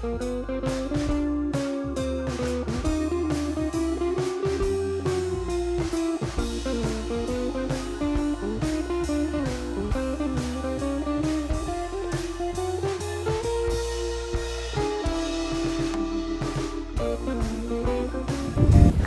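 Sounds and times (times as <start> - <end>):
blues electric guitar tune: 0.0 - 19.0
steady drum beat: 0.0 - 19.0.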